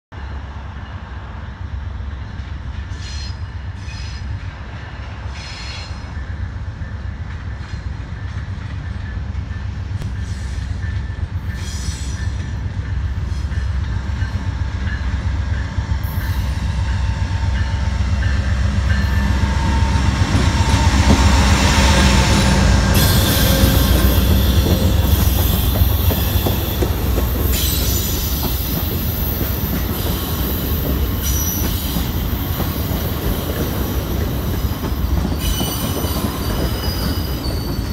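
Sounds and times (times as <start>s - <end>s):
diesel locomotive engine rumble: 0.1s - 37.9s
train squeals: 2.8s - 37.9s.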